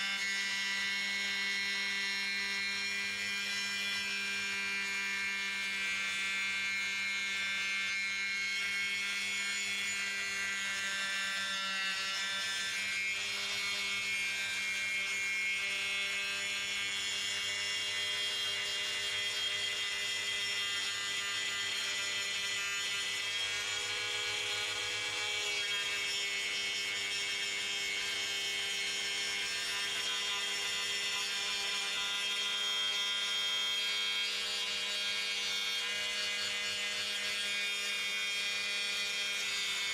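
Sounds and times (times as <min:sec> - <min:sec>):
electric tile saw cutting: 0:00.0 - 0:39.9.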